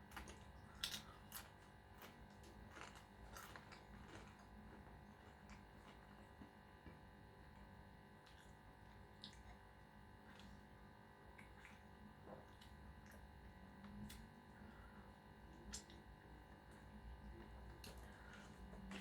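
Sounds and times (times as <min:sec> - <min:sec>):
chewing with mouth smacks: 0:00.0 - 0:07.1, 0:08.2 - 0:10.7, 0:11.3 - 0:14.3, 0:15.5 - 0:19.0
faint room hum: 0:00.0 - 0:19.0.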